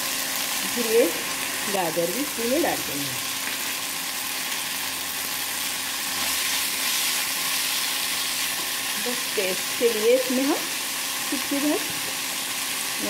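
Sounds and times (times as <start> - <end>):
vegetables sizzling in pan: 0.0 - 13.0.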